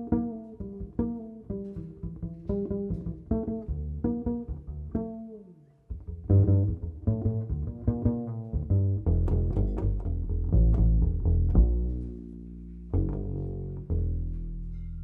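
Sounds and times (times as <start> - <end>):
double bass: 0.0 - 15.0.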